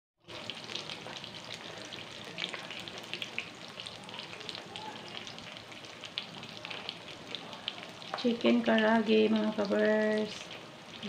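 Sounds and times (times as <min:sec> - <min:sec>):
chicken frying in hot oil: 0:00.2 - 0:11.0.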